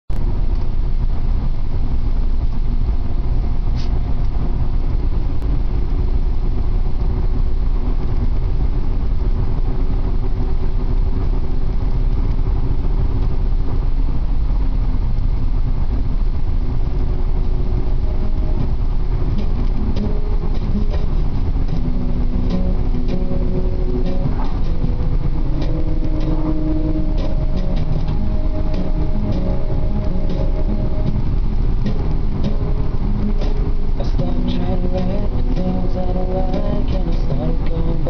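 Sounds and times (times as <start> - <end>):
low engine drone: 0.1 - 38.0
tyres rumbling on road: 0.1 - 38.0.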